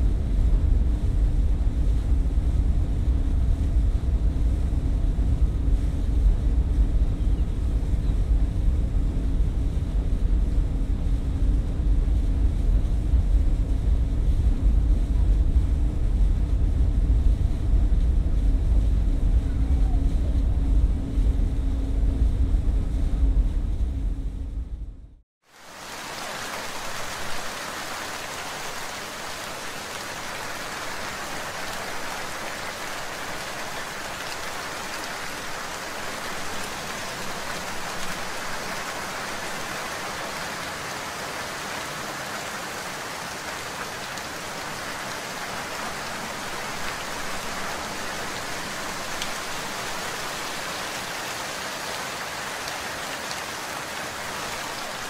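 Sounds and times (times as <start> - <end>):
steady rain hiss: 0.0 - 23.8, 25.4 - 55.0.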